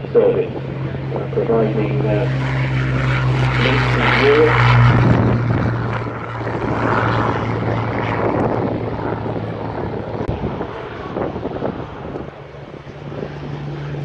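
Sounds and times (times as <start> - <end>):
propeller aircraft engine drone: 0.0 - 14.0
rushing airflow: 0.0 - 14.0.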